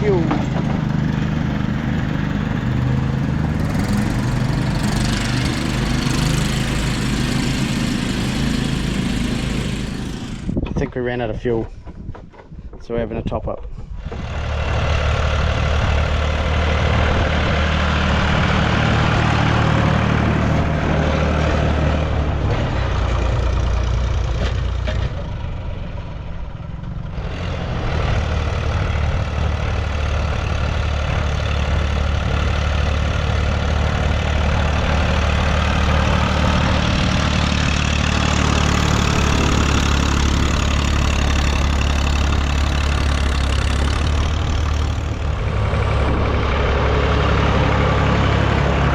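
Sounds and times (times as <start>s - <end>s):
tractor engine running: 0.0s - 11.0s, 13.9s - 48.9s.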